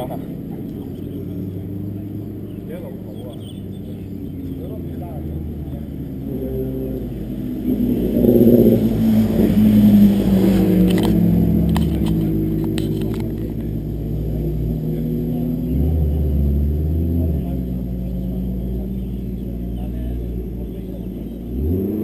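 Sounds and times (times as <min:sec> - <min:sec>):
sports car engine accelerating: 0:00.0 - 0:22.0.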